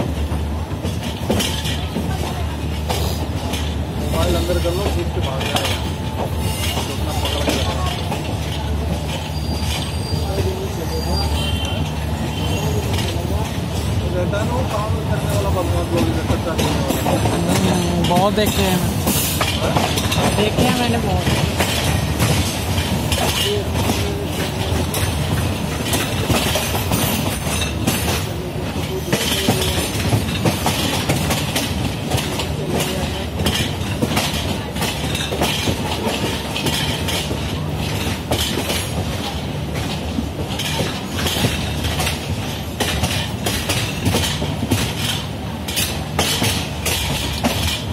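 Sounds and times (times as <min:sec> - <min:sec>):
wheels clacking over rail joints: 0:00.0 - 0:47.9
wheels rumbling on rail: 0:00.0 - 0:47.9.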